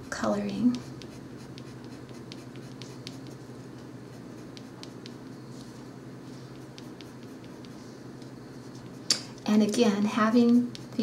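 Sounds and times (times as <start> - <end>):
faint low hum: 0.0 - 11.0
pencil scratching on paper: 0.1 - 9.1, 10.3 - 11.0.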